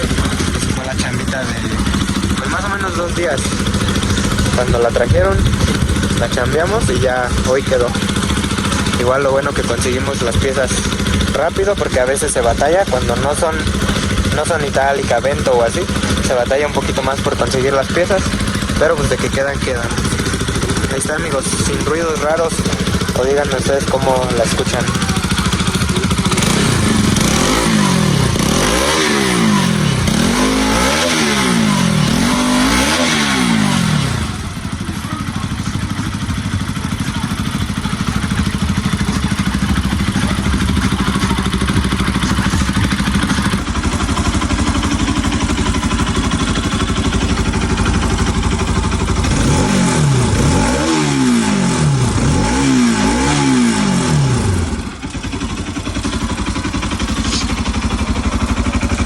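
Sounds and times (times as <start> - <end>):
motorcycle engine revving and idling: 0.0 - 59.0.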